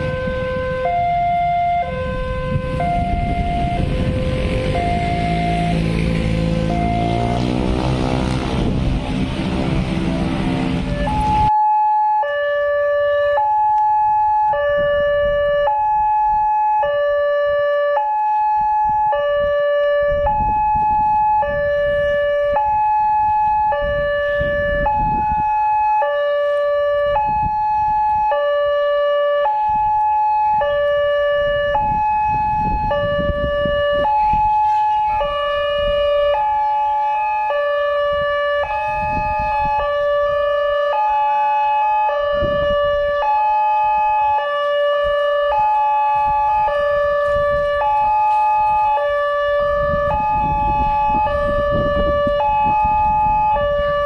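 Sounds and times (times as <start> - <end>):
two-tone crossing alarm: 0.0 - 54.0.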